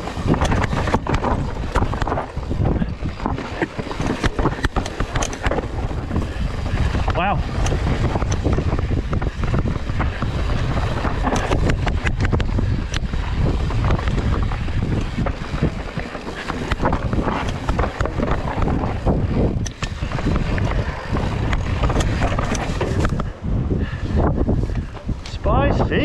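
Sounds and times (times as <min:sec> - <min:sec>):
tyres rumbling on rock: 0:00.0 - 0:23.4
bike rattling over bumps: 0:00.0 - 0:26.0
wind buffeting microphone: 0:00.0 - 0:26.0.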